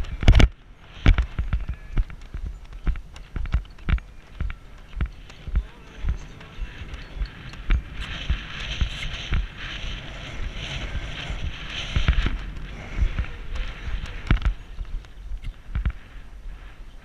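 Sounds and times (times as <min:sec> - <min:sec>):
horse hooves thudding on sand: 0:00.0 - 0:17.0
wind on microphone: 0:00.0 - 0:17.0.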